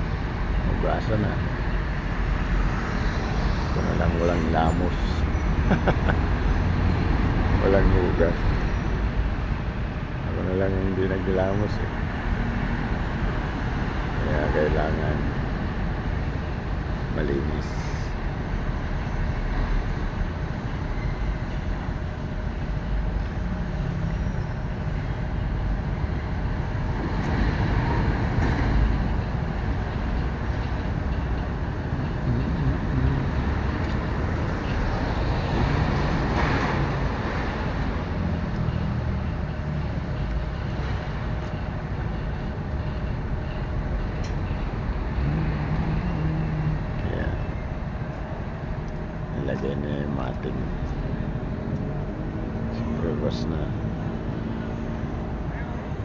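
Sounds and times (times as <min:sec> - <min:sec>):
motor vehicle low rumble: 0:00.0 - 0:56.0.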